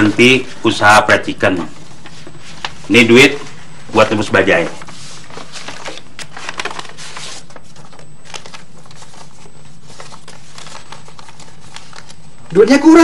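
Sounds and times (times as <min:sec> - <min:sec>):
banknotes rustling and crinkling: 0:00.0 - 0:13.0
steady low hum: 0:00.0 - 0:13.0.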